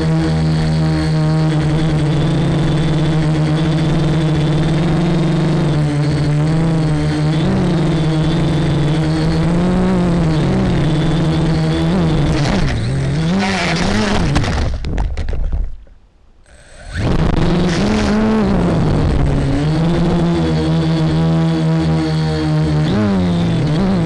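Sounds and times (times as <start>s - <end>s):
quadcopter propellers buzzing: 0.0s - 14.7s, 16.5s - 24.0s.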